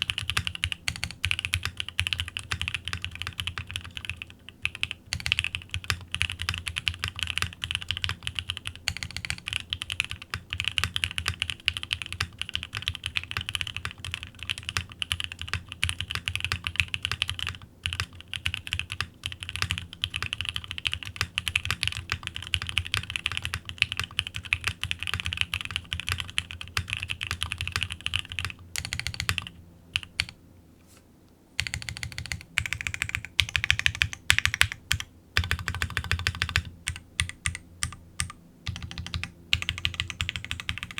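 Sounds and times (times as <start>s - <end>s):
typing on mechanical keyboard: 0.0s - 30.4s, 31.6s - 40.9s.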